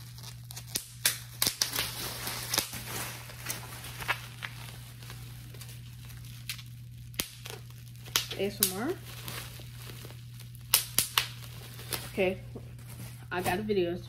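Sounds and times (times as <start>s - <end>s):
bubble wrap popping and crinkling: 0.0s - 13.8s.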